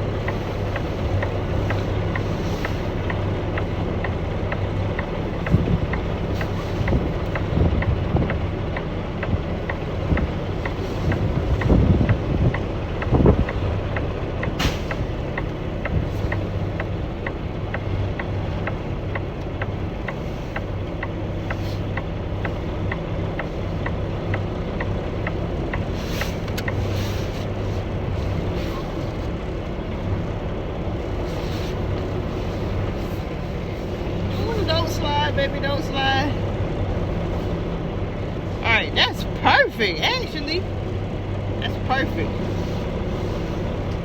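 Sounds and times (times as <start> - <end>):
truck diesel engine running: 0.0 - 44.0.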